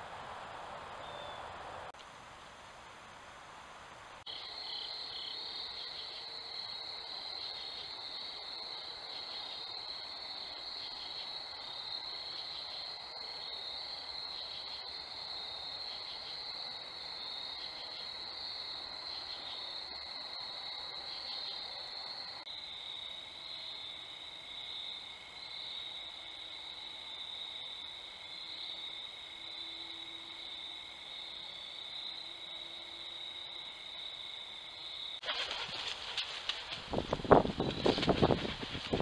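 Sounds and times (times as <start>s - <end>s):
faint background hiss: 0.0s - 39.0s
crickets trilling: 4.3s - 39.0s.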